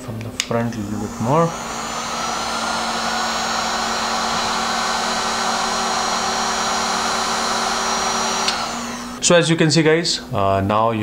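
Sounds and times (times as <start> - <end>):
heat gun fan humming: 0.4 - 9.4.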